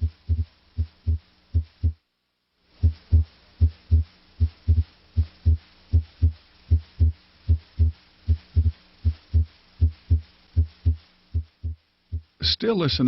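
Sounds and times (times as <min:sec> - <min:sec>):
heartbeat through stethoscope: 0:00.0 - 0:02.0, 0:02.8 - 0:12.4.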